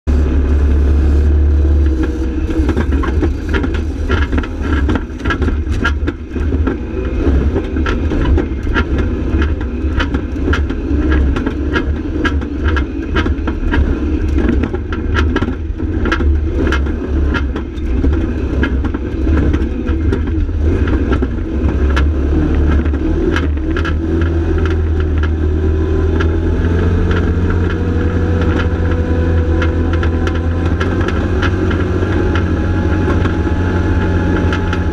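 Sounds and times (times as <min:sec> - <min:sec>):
utility vehicle engine running: 0:00.0 - 0:34.9.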